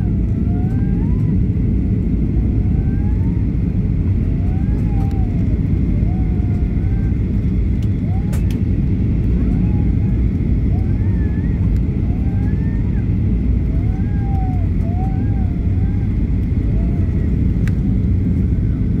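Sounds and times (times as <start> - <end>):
aircraft engines rumbling: 0.0 - 19.0.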